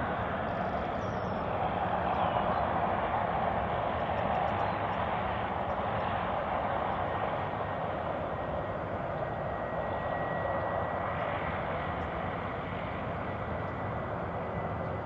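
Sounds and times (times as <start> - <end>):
distant jet engines rushing: 0.0 - 15.0.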